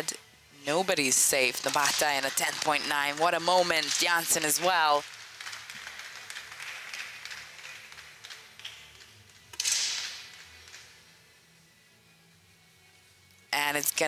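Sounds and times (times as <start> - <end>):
low hall noise: 0.0 - 14.0.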